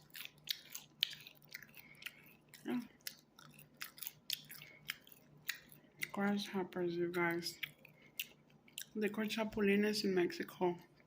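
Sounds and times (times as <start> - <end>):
crunchy chewing: 0.0 - 9.4.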